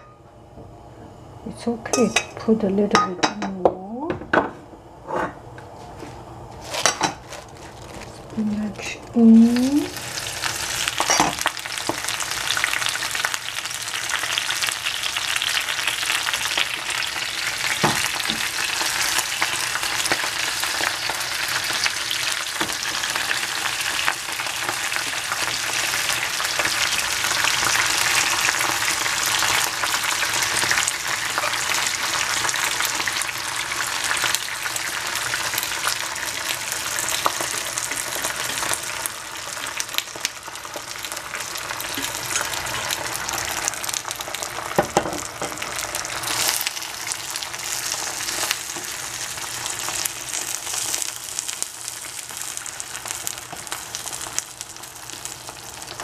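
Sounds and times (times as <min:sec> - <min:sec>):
food sizzling in hot oil: 0:06.7 - 0:56.0.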